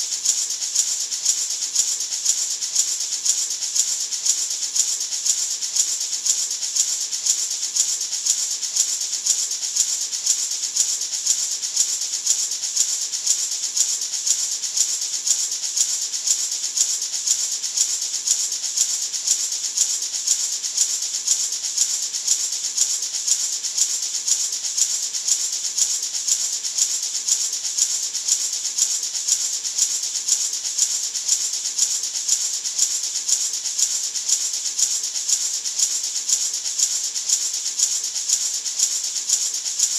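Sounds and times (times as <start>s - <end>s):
maraca rattling: 0.0s - 39.9s.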